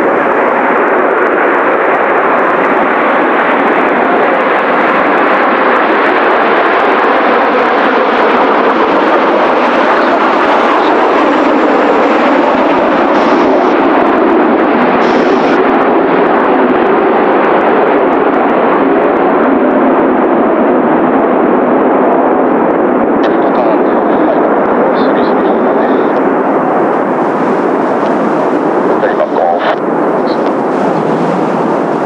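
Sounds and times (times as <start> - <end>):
jet roar: 0.0 - 32.0.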